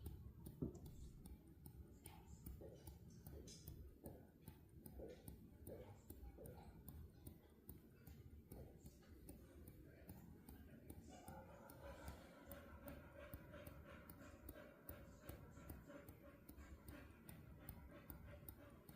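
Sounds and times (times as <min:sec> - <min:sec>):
faint even ticking: 0:00.0 - 0:18.9.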